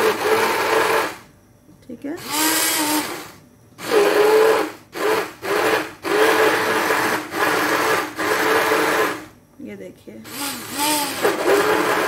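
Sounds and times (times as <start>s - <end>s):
electric hand blender motor whining: 0.0s - 1.2s, 2.2s - 9.3s, 10.3s - 12.0s.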